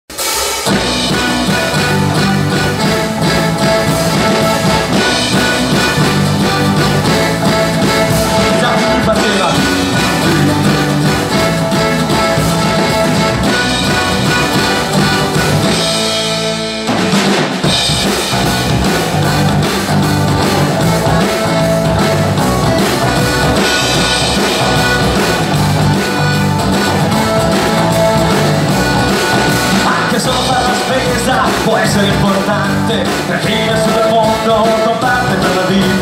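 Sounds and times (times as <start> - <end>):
folk-rock band playing: 0.1 - 36.0.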